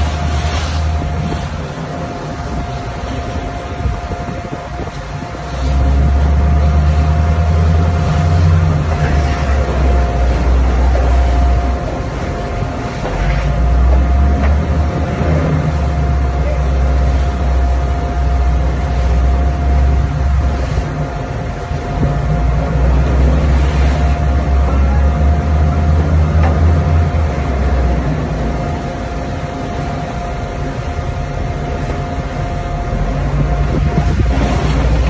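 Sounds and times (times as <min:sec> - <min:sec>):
boat engines droning: 0:00.0 - 0:35.0
thin steady whine: 0:00.0 - 0:35.0
water rushing against hull: 0:00.0 - 0:35.0.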